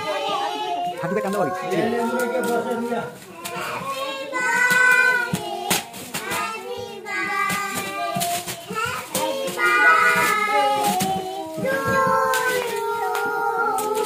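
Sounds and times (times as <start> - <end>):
child singing with music: 0.0 - 14.0
foil wrap crinkling: 0.5 - 14.0.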